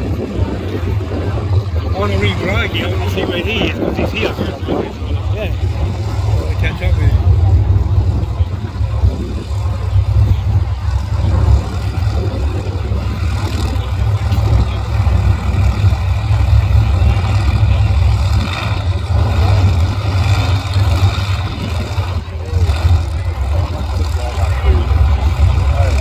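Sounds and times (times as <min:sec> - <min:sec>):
race car engines idling: 0:00.0 - 0:26.0.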